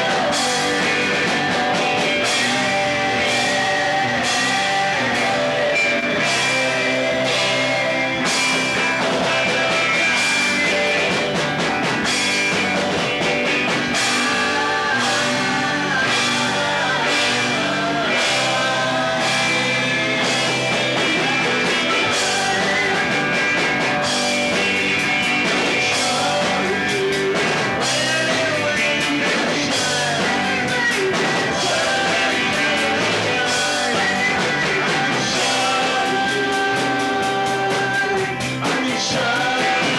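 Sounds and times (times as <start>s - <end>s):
person singing: 0.0s - 11.6s, 13.0s - 39.9s
drums: 0.0s - 39.9s
electric guitar: 0.0s - 39.9s.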